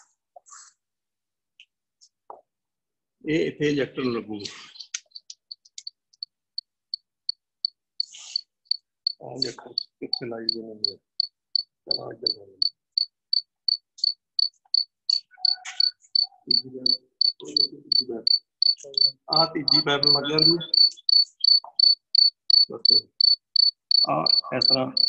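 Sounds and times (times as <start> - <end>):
cricket chirping: 4.4 - 25.0.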